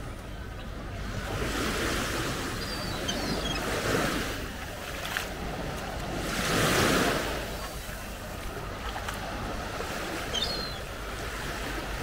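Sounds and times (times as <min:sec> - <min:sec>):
small waves on sandy beach: 0:00.0 - 0:12.0.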